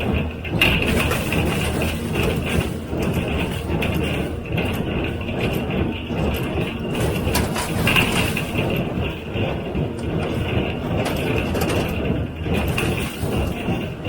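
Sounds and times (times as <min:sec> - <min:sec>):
tractor engine: 0:00.0 - 0:14.0
hay baler clattering: 0:00.1 - 0:14.0.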